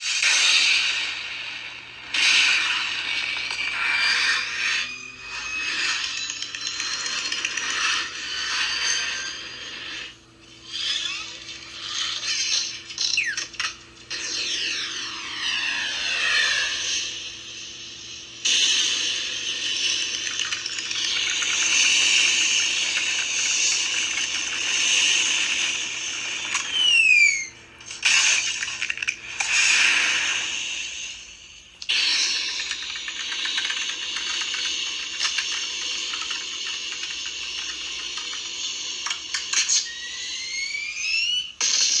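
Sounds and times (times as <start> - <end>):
toy rocket sound effects: 0.0 - 17.2, 18.0 - 31.2, 31.8 - 42.0.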